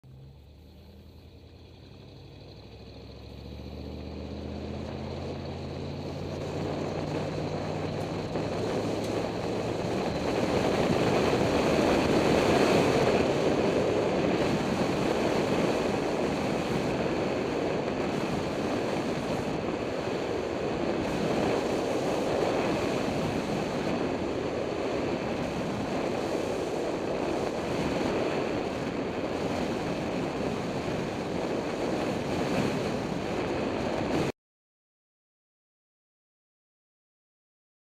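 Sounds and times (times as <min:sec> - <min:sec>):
engine speeding up: 0:00.0 - 0:34.3
wind rushing on microphone: 0:03.7 - 0:34.3.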